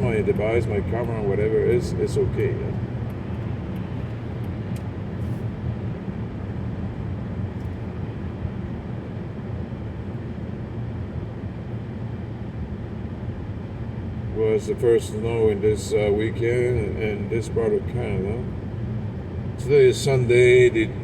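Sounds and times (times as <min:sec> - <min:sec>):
car road noise rumble: 0:00.0 - 0:21.0.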